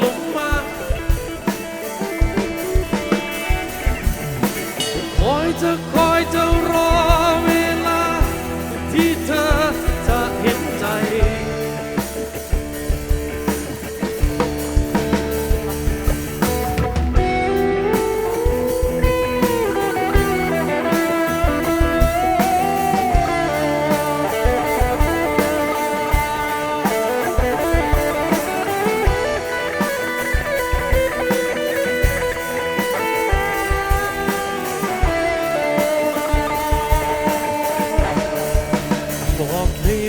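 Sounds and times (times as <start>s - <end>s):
bass guitar: 0.0s - 40.0s
drums: 0.0s - 40.0s
lead guitar with bending notes: 0.0s - 40.0s.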